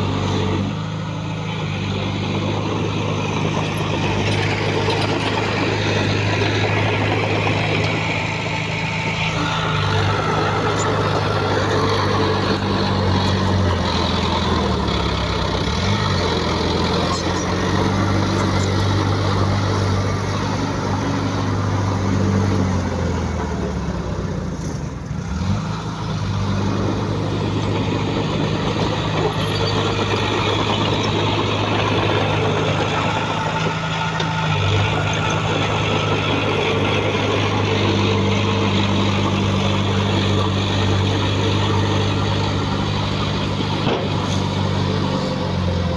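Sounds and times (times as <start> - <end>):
heavy diesel engine revving: 0.0 - 45.9.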